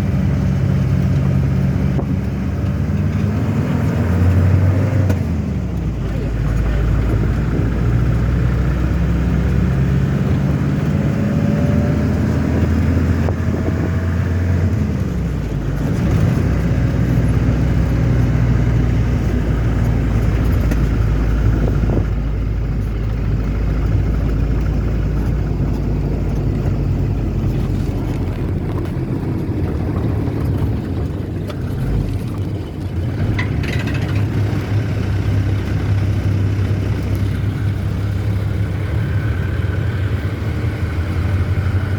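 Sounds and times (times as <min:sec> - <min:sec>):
car engine hum: 0:00.0 - 0:41.9
road noise: 0:00.0 - 0:41.9.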